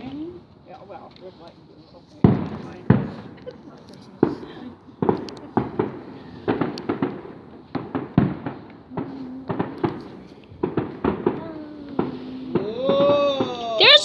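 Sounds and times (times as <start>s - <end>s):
fireworks bangs and pops: 0.7s - 14.0s.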